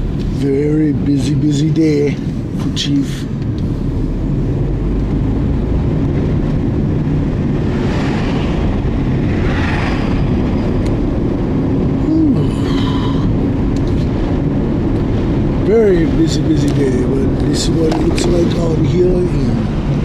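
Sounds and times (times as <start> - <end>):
vehicle road and engine rumble: 0.0 - 20.0.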